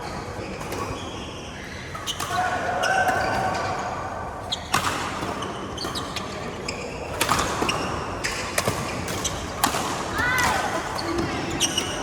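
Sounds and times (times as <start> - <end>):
court background noise: 0.0 - 12.0.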